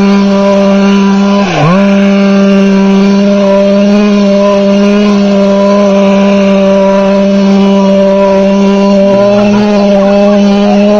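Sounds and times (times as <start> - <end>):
small two-stroke engine revving: 0.0 - 10.9.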